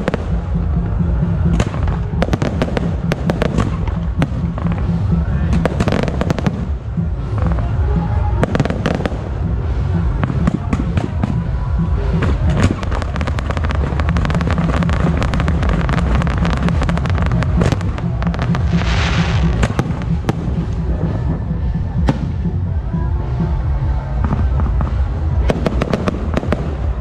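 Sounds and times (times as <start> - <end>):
fireworks bangs and crackles: 0.0 - 27.0
low rumble: 0.0 - 27.0.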